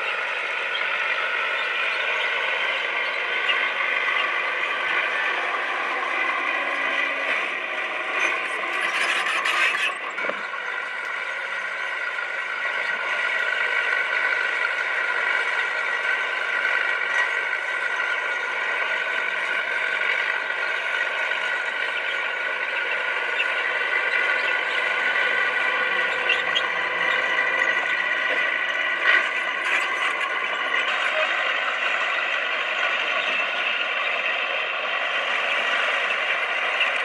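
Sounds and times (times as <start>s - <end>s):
bulldozer engine whining: 0.0s - 37.0s
bulldozer clattering: 0.4s - 37.0s.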